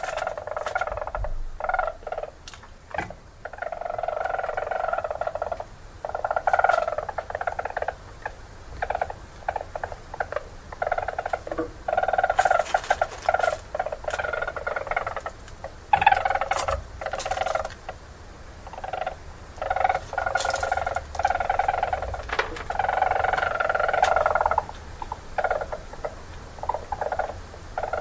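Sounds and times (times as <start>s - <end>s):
weasels pulsed trilling calls: 0.0s - 18.0s, 18.6s - 28.0s.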